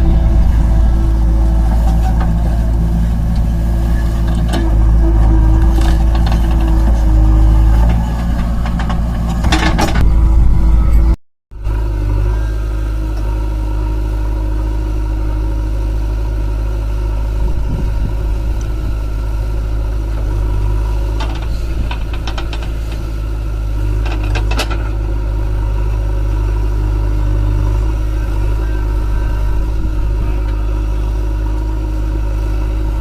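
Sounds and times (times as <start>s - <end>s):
backhoe engine droning: 0.0s - 33.0s.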